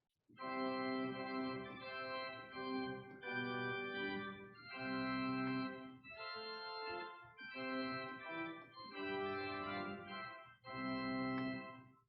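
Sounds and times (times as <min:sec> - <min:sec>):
organ playing sustained chords: 0:00.4 - 0:11.9.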